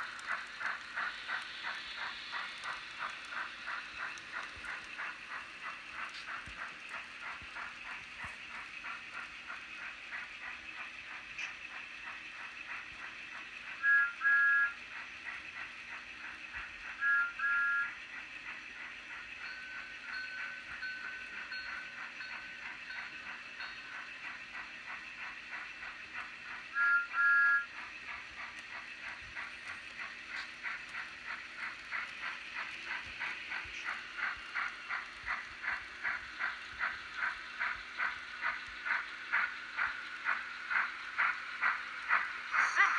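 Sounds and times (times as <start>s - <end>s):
steam locomotive chuffing: 0.0s - 42.9s.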